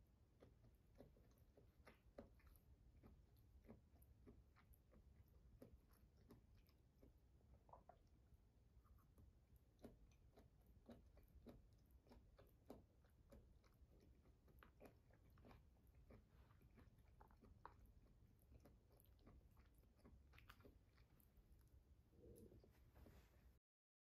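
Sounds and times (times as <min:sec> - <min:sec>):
quiet chewing: 0:00.0 - 0:23.6.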